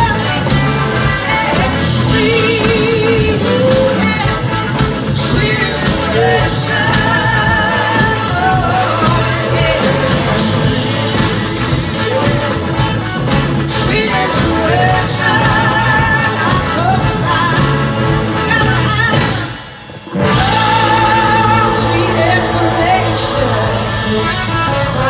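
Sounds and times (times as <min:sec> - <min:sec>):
woman singing: 0:00.0 - 0:11.4, 0:13.7 - 0:19.5, 0:20.3 - 0:25.0
live rock band playing: 0:00.0 - 0:25.0.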